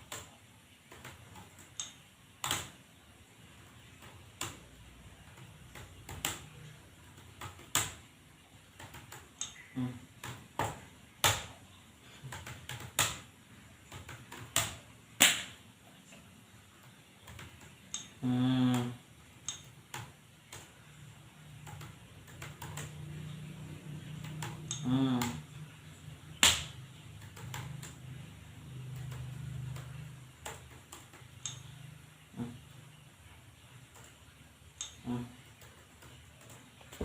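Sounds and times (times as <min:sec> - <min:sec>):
computer keyboard typing: 0:00.0 - 0:02.8, 0:03.6 - 0:15.4, 0:16.8 - 0:32.9
faint low hum: 0:00.0 - 0:37.0.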